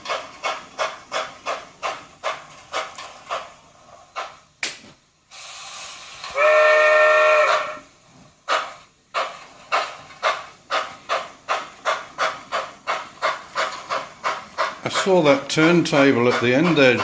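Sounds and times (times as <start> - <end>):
steam hiss: 0.0 - 17.0
steam locomotive chuffs: 0.0 - 17.0.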